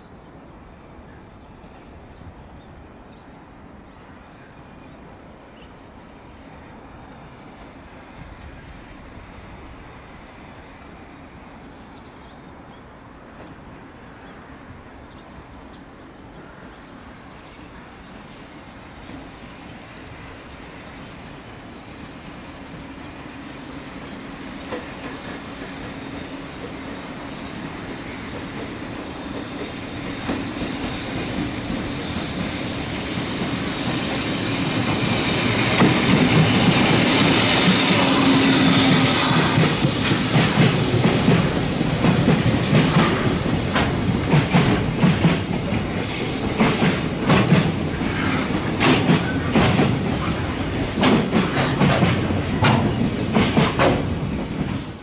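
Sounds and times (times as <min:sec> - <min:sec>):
electric locomotive passing: 0:00.0 - 0:55.0.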